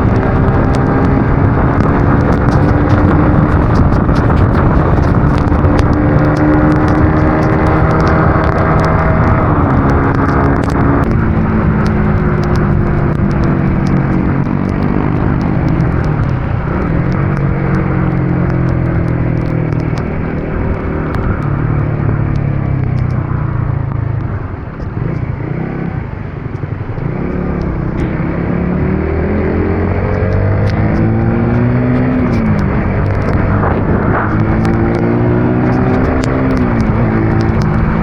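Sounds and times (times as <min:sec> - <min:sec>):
sharp ticks: 0:00.0 - 0:28.2, 0:29.5 - 0:38.0
road and wind noise: 0:00.0 - 0:38.0
vehicle engine running: 0:00.0 - 0:38.0.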